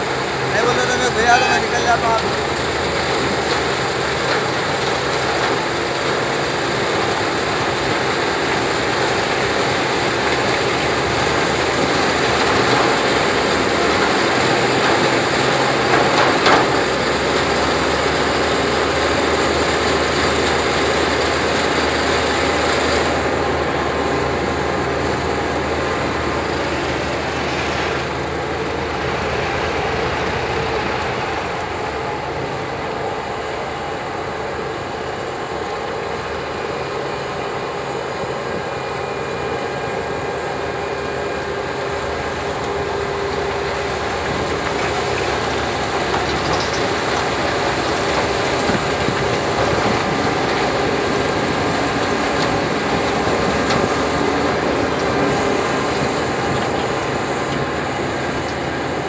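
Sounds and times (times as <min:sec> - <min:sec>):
harvester engine and chopping gear: 0:00.0 - 0:59.0
tractor engine running: 0:00.0 - 0:59.0.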